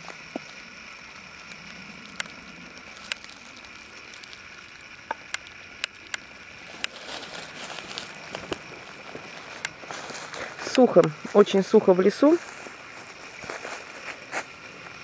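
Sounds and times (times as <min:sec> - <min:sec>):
dry leaves and twigs snapping: 0:00.0 - 0:15.0
faint steady background noise: 0:00.0 - 0:15.0.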